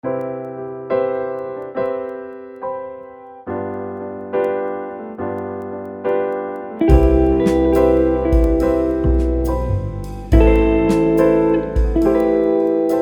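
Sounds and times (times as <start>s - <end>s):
keyboard chords: 0.0s - 13.0s.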